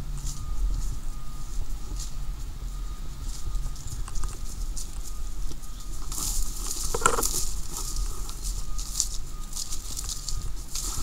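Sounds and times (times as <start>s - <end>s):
footsteps crunching through leaves: 0.0s - 11.0s
steady low rumble: 0.0s - 11.0s.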